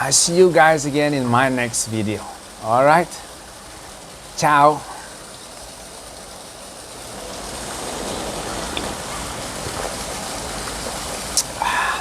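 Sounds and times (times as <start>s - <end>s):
steady rushing hissing noise: 0.0s - 12.0s.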